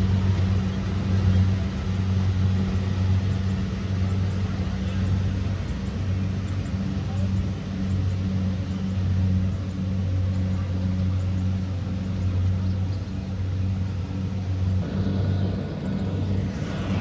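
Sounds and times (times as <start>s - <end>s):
diesel engine humming: 0.0s - 17.0s
machinery noise: 0.0s - 17.0s.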